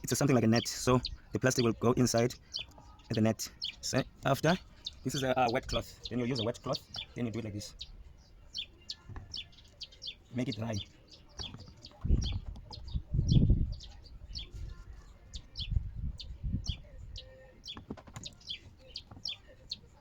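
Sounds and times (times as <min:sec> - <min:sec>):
small bird chirping: 0:00.0 - 0:20.0.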